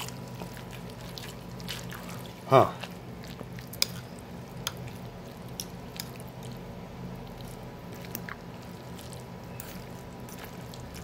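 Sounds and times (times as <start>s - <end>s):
steady low hum: 0.0s - 11.0s
utensil stirring wet noodles: 0.0s - 11.0s.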